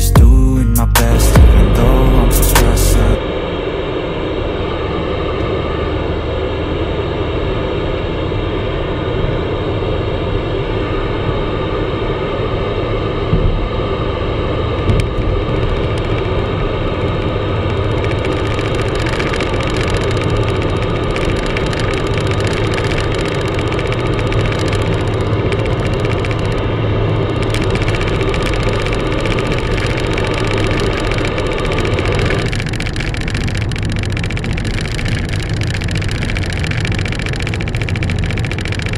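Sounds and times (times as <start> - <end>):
car engine and tyre noise: 1.2 - 38.9.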